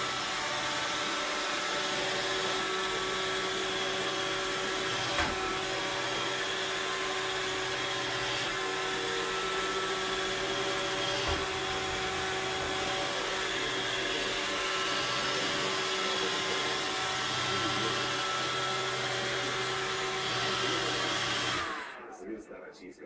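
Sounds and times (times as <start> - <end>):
robot vacuum cleaner humming: 0.0 - 22.0.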